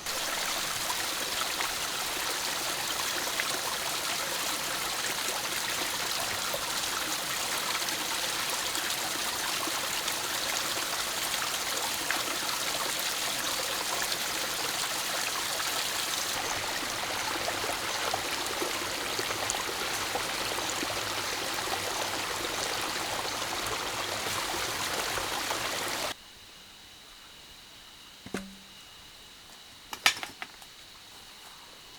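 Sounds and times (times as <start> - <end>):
water rushing: 0.0 - 26.2.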